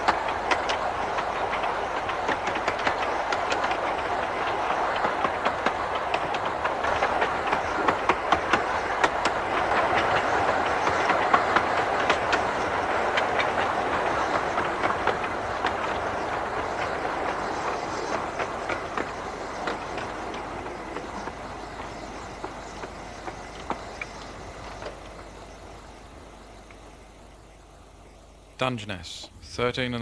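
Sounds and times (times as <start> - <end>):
wheels clicking over rail joints: 0.0 - 28.2
train rumble: 0.0 - 30.0.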